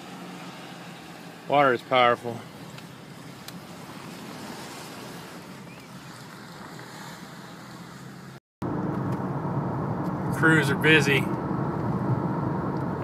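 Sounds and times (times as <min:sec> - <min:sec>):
vehicle hum: 0:00.0 - 0:13.0.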